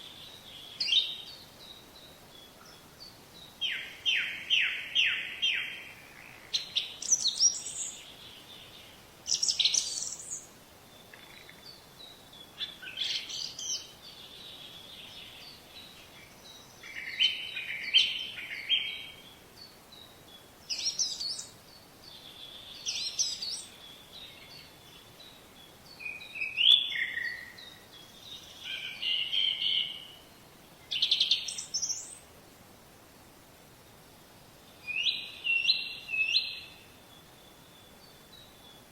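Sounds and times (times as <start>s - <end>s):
birds chirping: 0.0s - 32.3s.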